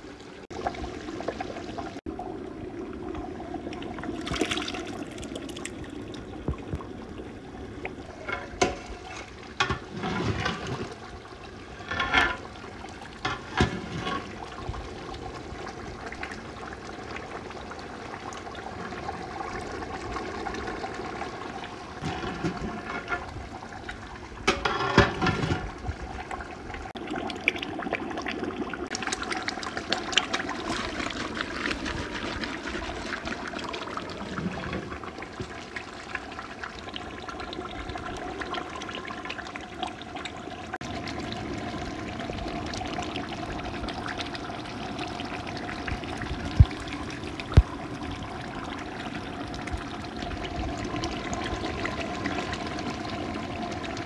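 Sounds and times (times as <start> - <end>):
curry bubbling in pot: 0.0 - 54.0.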